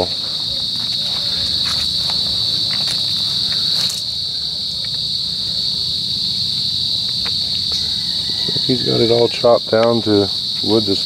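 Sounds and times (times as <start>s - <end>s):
insect chorus buzzing trill: 0.0s - 11.0s.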